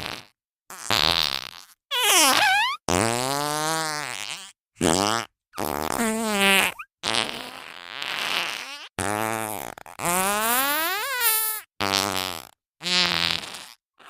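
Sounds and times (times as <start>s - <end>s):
cartoon fart sound effects: 0.0s - 14.0s.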